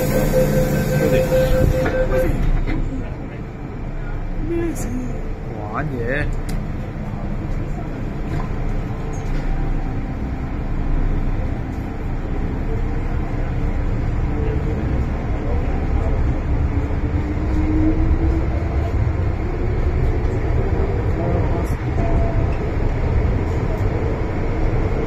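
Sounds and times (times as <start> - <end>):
wheels rumbling on track: 0.0 - 25.0.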